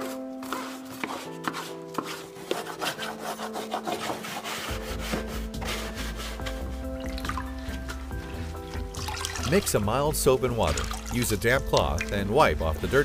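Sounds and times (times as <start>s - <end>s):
stiff brush scrubbing: 0.0s - 13.0s.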